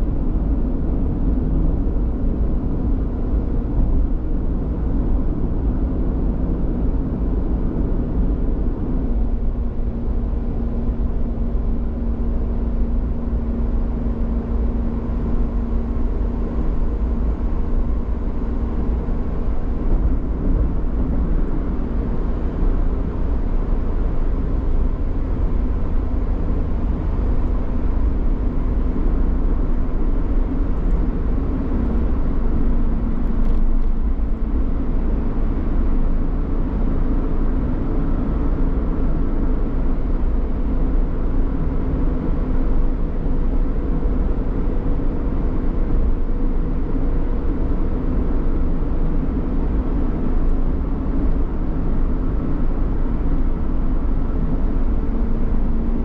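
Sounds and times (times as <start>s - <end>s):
road rumble: 0.0s - 56.0s
vehicle engine drone: 0.0s - 56.0s.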